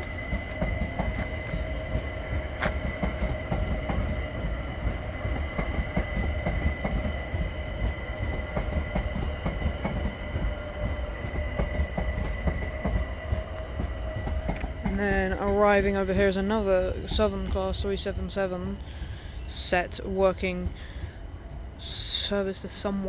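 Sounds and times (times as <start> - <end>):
high-pitched train whine: 0.0 - 23.0
train low rumble: 0.0 - 23.0.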